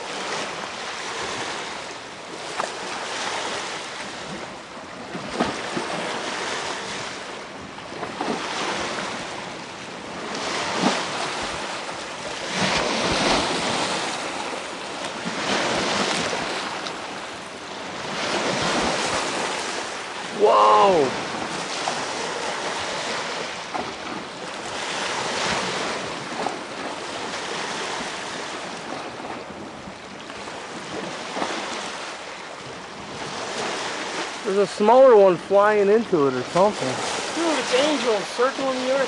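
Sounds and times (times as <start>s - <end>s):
lake waves washing on shore: 0.0s - 39.0s.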